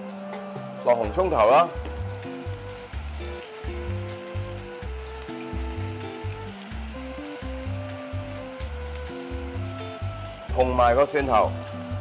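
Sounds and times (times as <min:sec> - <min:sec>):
food sizzling in oil: 0:00.0 - 0:12.0
light background music: 0:00.0 - 0:12.0.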